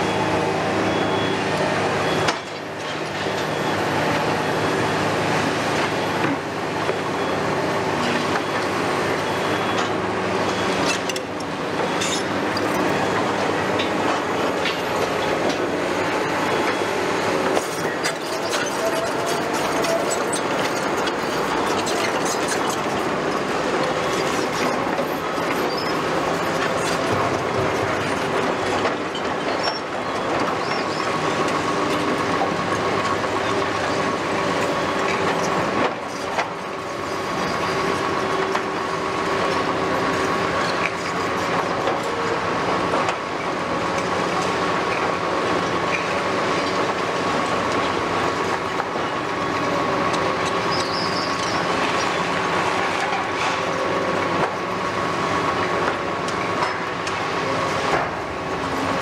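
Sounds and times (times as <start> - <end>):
diesel engine and hydraulics running: 0.0 - 59.0
excavator tracks clanking and squealing: 0.0 - 59.0.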